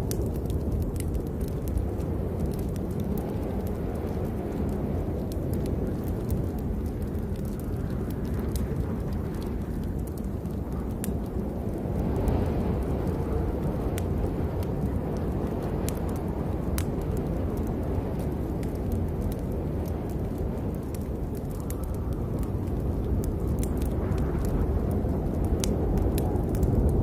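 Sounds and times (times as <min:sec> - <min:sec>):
rain rumbling: 0:00.0 - 0:27.0.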